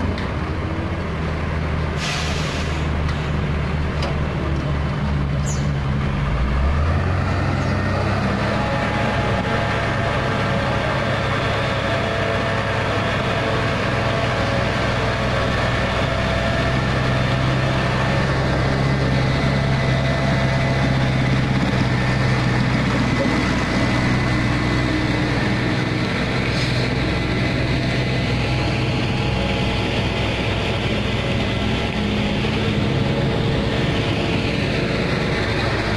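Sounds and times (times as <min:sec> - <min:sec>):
heavy diesel truck engine running: 0:00.0 - 0:35.9.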